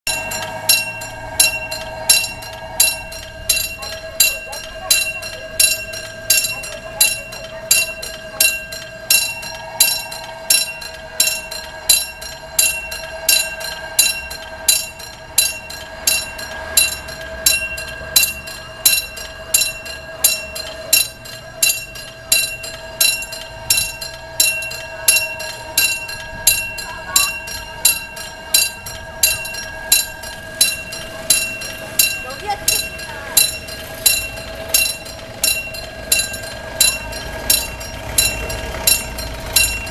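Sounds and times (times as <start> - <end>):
level crossing bell ringing: 0.0 - 39.9.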